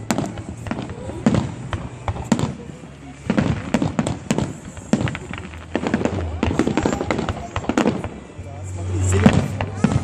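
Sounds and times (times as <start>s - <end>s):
fireworks bangs with echo: 0.0s - 10.0s.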